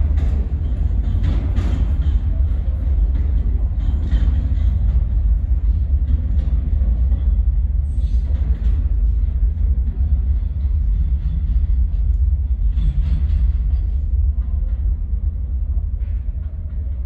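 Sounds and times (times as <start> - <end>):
train rumbling in tunnel: 0.0 - 17.0.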